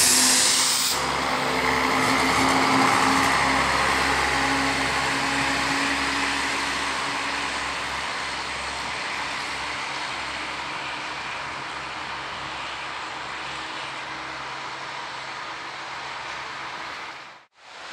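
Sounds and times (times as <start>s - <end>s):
diesel train passing: 0.0s - 17.9s
train engine whine: 0.0s - 17.9s.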